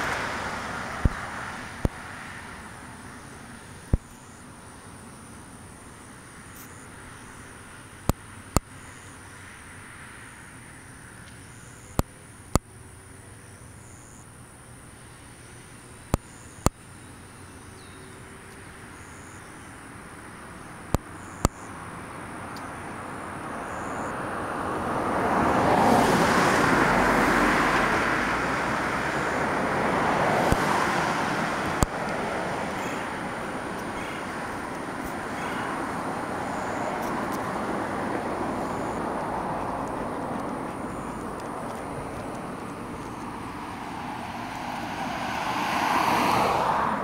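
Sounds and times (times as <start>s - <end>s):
road vehicle passing: 0.0s - 13.8s, 14.9s - 47.0s.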